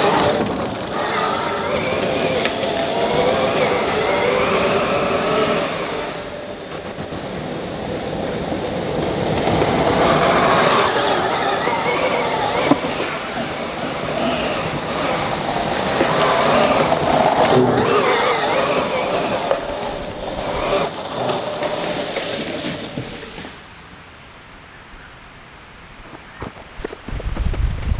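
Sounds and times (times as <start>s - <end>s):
electric motor and gears whining: 0.0s - 23.7s
tyres sliding on dirt: 0.0s - 24.4s.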